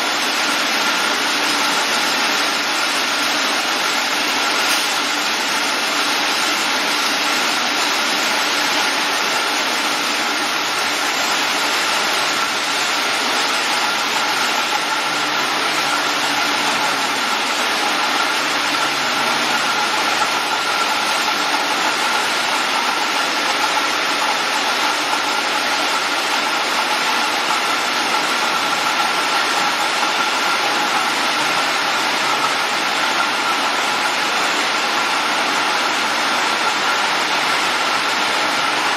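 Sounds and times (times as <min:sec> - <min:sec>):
production line machinery din: 0:00.0 - 0:38.9.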